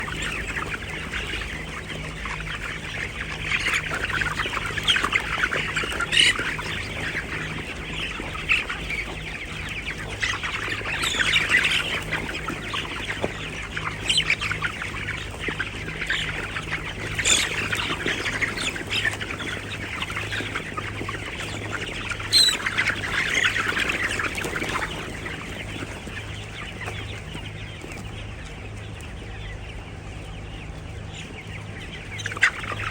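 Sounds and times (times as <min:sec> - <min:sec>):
flock of poultry chattering: 0:00.0 - 0:32.9
poultry squawks: 0:00.0 - 0:32.9.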